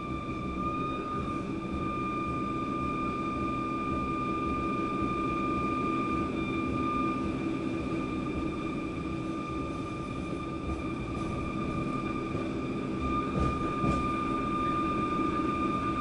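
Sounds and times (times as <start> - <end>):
train motor whine: 0.0 - 16.0
wheels rumbling on track: 0.0 - 16.0.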